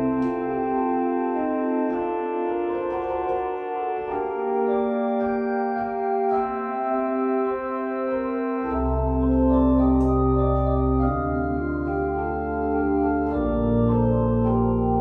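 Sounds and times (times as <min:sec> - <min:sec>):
deep organ bass notes: 0:00.0 - 0:15.0
organ playing held chords: 0:00.0 - 0:15.0.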